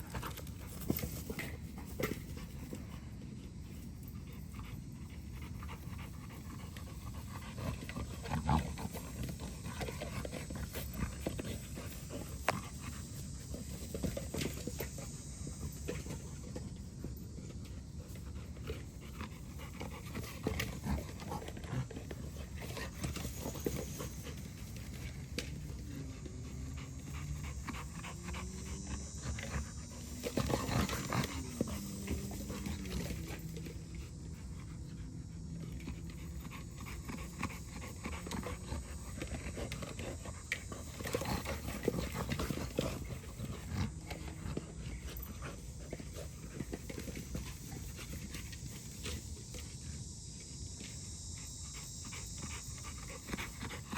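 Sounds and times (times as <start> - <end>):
dog panting: 0.0 - 53.9.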